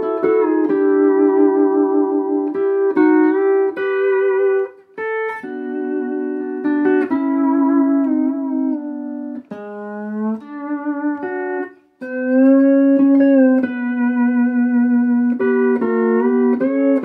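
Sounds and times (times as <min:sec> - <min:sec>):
electric lap steel guitar: 0:00.0 - 0:17.0.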